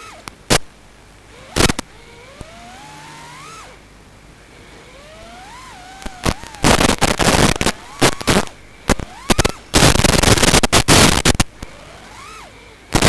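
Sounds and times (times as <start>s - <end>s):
quadcopter motors whining: 0.0s - 0.6s, 1.2s - 13.0s
loud crackling bursts: 0.0s - 3.7s, 5.3s - 13.0s.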